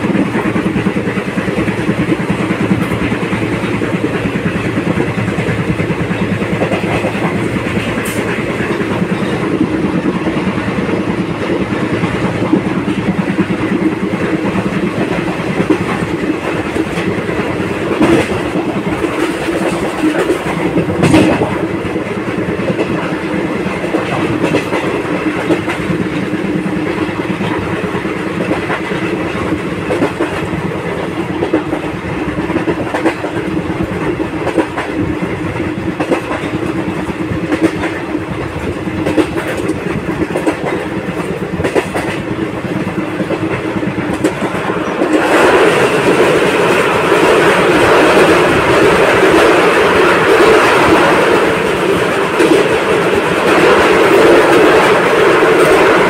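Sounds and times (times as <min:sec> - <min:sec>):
train crossing steel bridge: 0:00.0 - 0:56.0
train wheels clacking over rail joints: 0:00.0 - 0:56.0.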